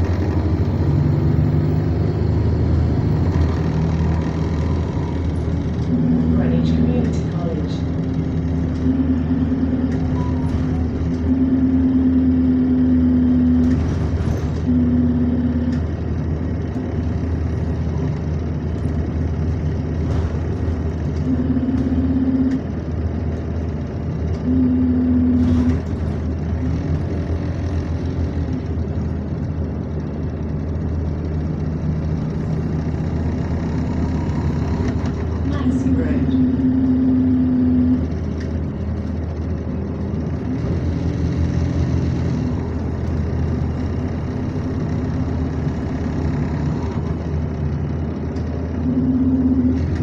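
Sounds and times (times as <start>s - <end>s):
bus diesel engine humming: 0.0s - 50.0s.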